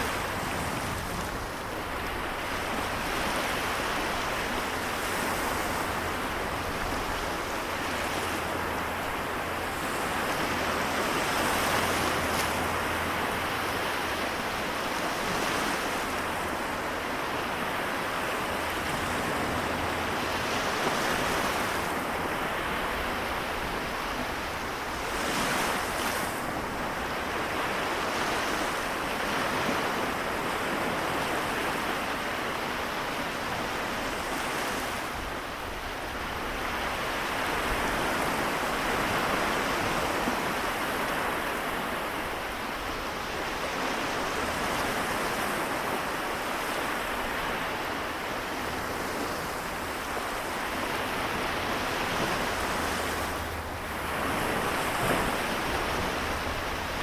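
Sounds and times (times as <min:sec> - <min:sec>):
small waves washing on shore: 0:00.0 - 0:57.0.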